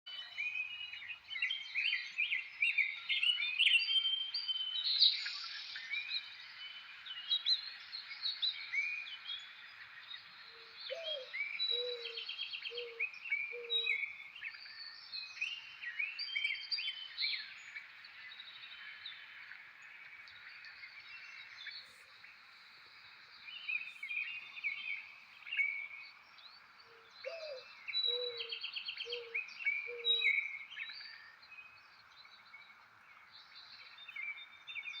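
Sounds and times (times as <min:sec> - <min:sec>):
wild birds chirping: 0:00.1 - 0:35.0.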